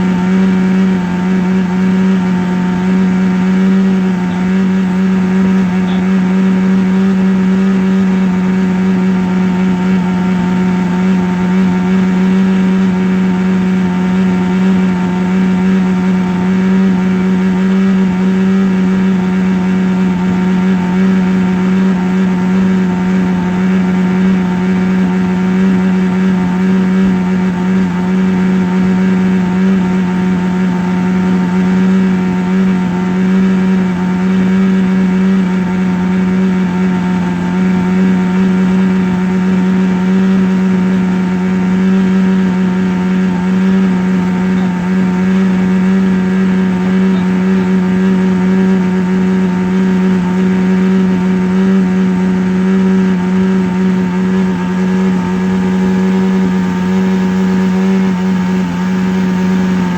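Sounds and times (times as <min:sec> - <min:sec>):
loud buzzing hum: 0:00.0 - 0:59.9.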